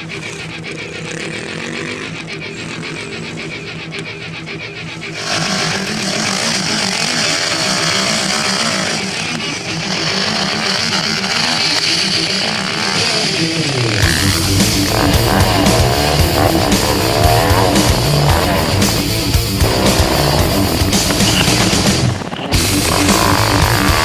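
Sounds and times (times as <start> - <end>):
loud rock music: 0.0 - 24.0
motocross bike engines revving: 0.0 - 24.0.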